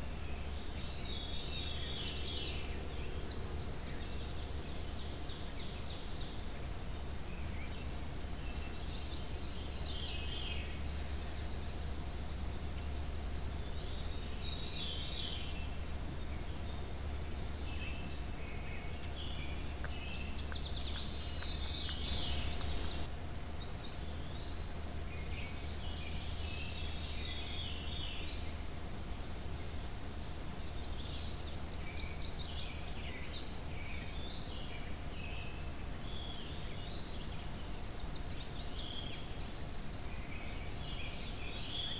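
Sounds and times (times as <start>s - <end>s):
birds singing: 0.0s - 41.9s
low hum: 0.0s - 41.9s.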